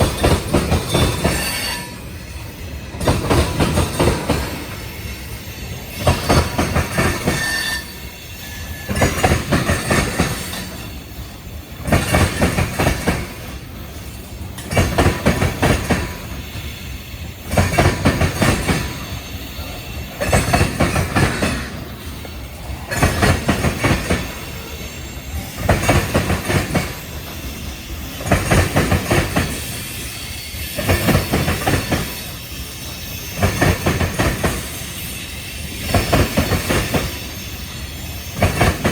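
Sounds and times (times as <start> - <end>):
freight train rumble: 0.0 - 38.9
train wheels clattering: 0.0 - 38.9.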